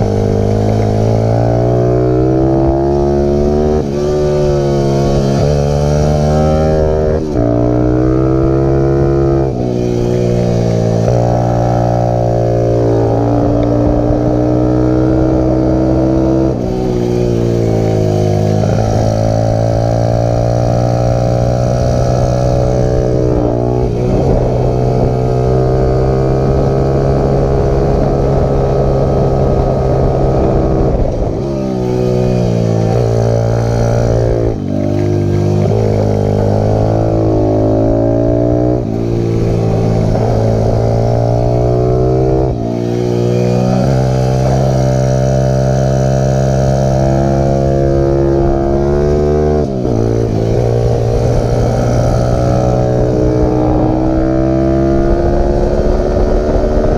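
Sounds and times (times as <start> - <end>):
motorbike engine revving: 0.0 - 56.9.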